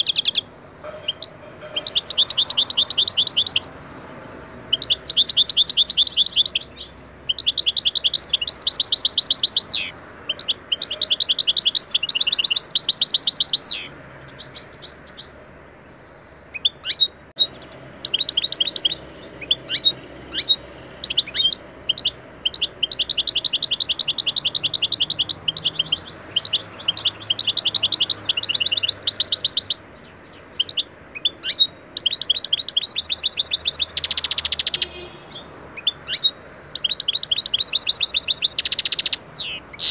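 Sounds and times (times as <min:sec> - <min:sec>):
finch singing: 0:00.0 - 0:15.4, 0:16.0 - 0:39.9.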